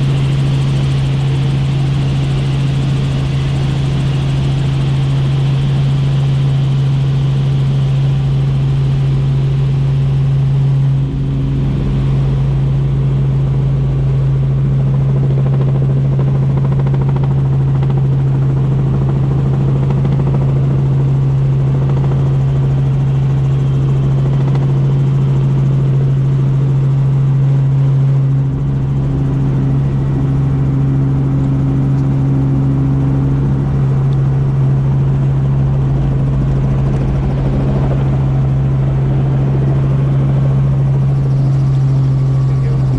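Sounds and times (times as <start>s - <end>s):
helicopter rotor and engine drone: 0.0s - 42.9s.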